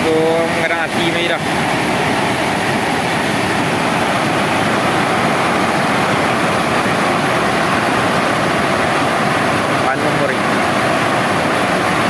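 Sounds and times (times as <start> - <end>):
waterfall rushing roar: 0.0 - 12.0.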